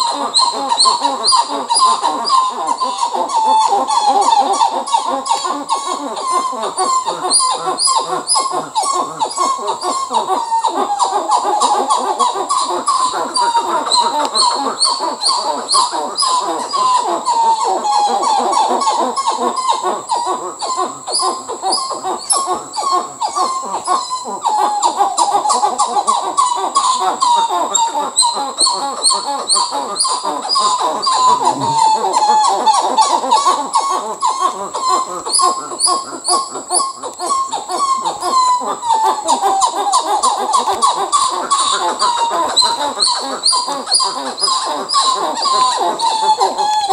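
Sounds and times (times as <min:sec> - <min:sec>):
monkeys calling: 0:00.0 - 0:46.9.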